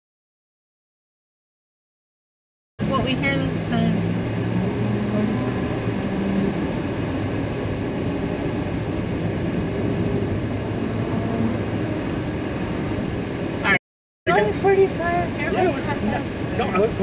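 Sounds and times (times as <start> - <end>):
road rumble inside car: 2.8 - 17.0
tyres humming on grooved road: 2.8 - 17.0.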